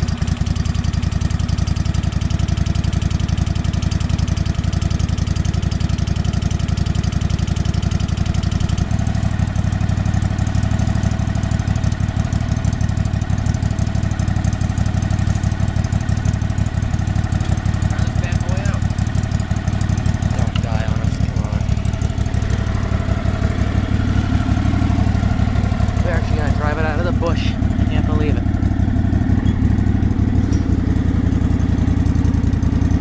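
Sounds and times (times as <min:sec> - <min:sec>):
lawn tractor engine running: 0:00.0 - 0:33.0.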